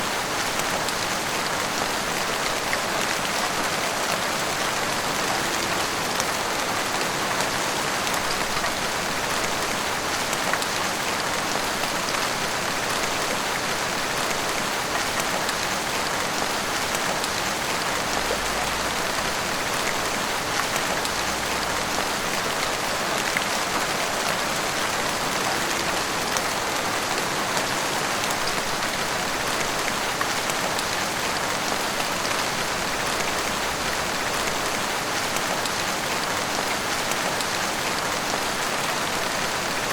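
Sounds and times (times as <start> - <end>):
heavy rain on rooftops and street: 0.0 - 39.9.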